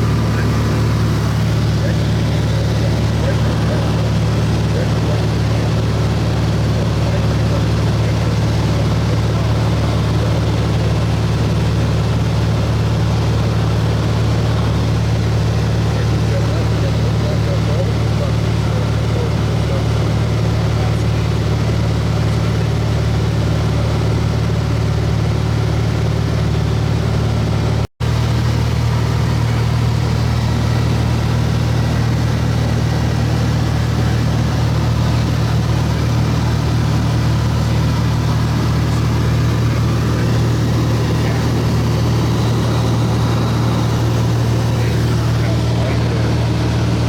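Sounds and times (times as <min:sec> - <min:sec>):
light aircraft engine drone: 0:00.0 - 0:47.0.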